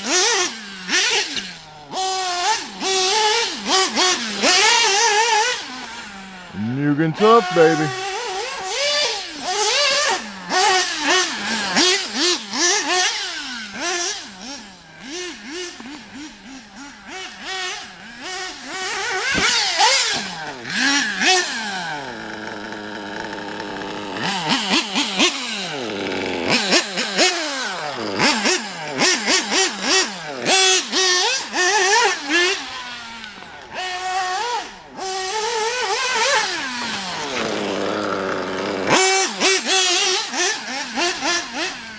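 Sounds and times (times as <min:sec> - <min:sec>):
model car engine revving: 0:00.0 - 0:41.9.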